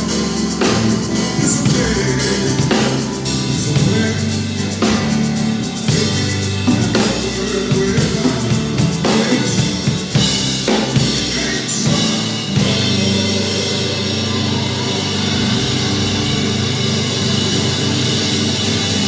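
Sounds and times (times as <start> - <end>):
drum kit playing: 0.0 - 19.0
live band music: 0.0 - 19.0.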